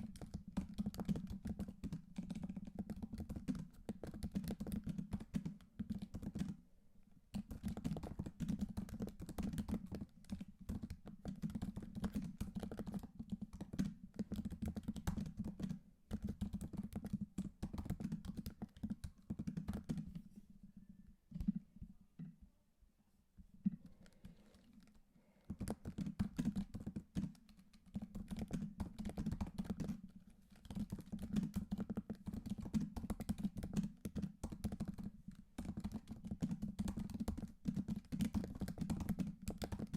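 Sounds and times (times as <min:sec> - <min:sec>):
typing on computer keyboard: 0:00.0 - 0:06.6, 0:07.3 - 0:20.2, 0:23.8 - 0:39.9.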